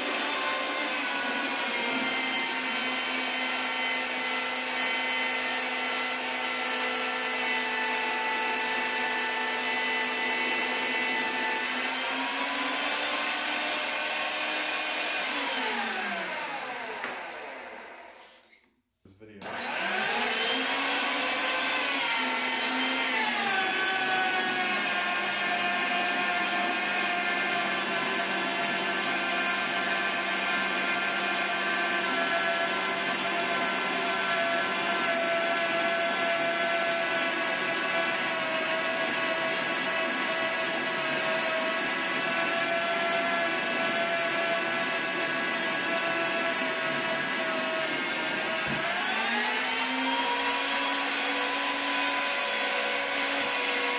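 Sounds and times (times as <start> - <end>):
drill motor boring through steel: 0.0 - 18.5, 19.4 - 53.9.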